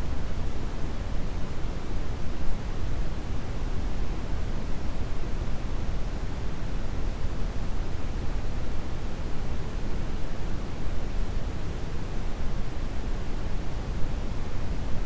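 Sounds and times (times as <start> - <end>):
brown noise hiss-rumble: 0.0 - 15.0.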